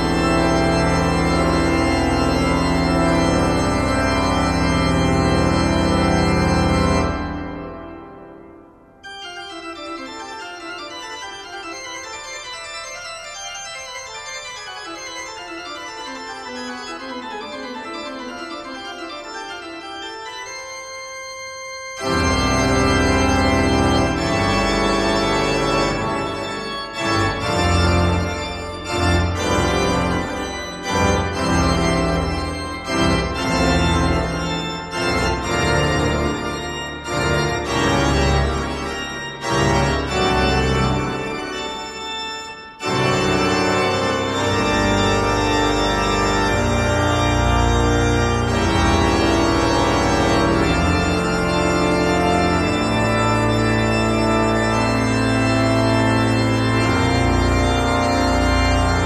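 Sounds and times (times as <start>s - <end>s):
organ-like keyboard music: 0.0s - 59.0s.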